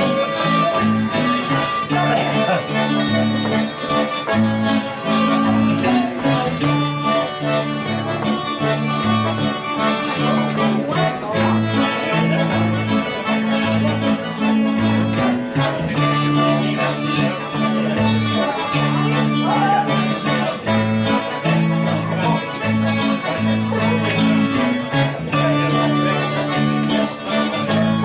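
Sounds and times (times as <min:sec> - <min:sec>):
accordion: 0:00.0 - 0:28.0
guitar: 0:00.0 - 0:28.0.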